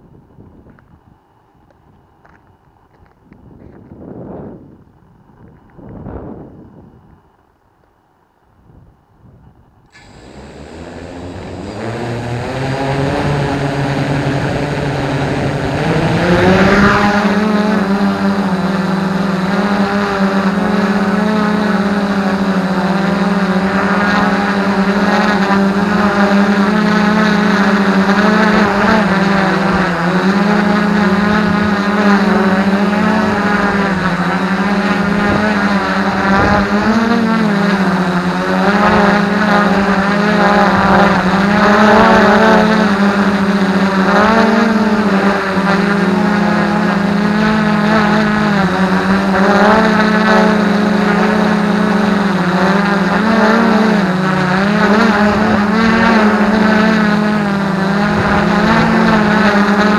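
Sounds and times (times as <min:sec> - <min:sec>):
drone motors buzzing: 0:09.9 - 0:59.9.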